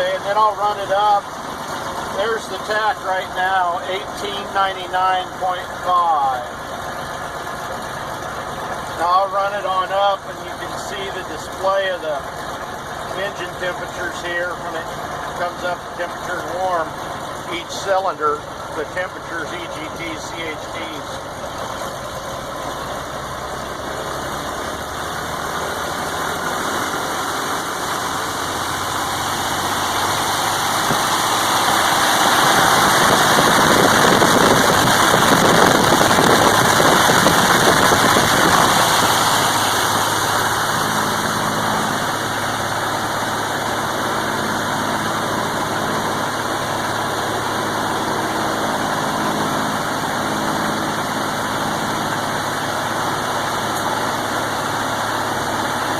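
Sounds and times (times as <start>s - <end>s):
aircraft engine and propeller: 0.0s - 55.9s.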